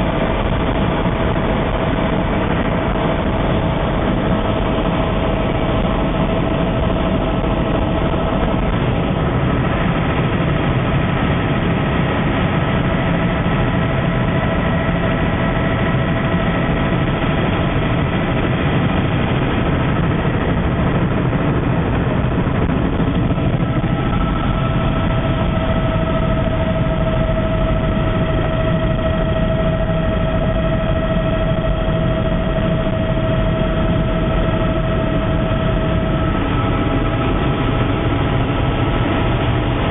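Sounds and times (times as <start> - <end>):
helicopter engine and rotor drone: 0.0 - 39.9
turbine whine: 0.0 - 39.9.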